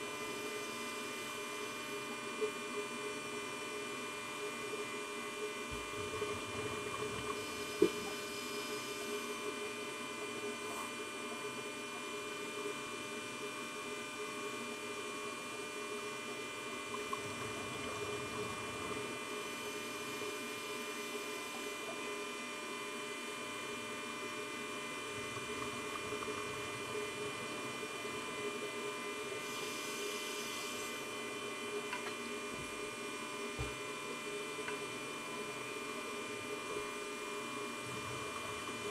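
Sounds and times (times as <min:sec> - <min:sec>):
steady hum: 0:00.0 - 0:12.0, 0:14.1 - 0:38.9.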